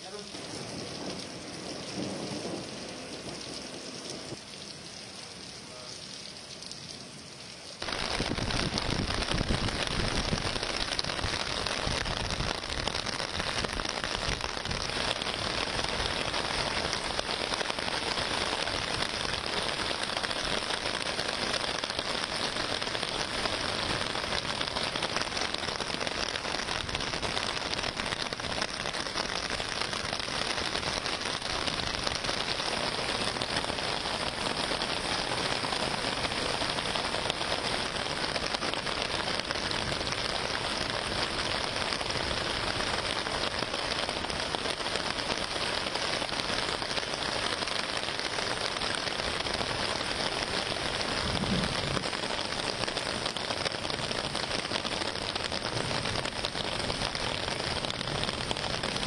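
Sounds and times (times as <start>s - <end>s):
heavy rain on water: 0.0s - 59.0s.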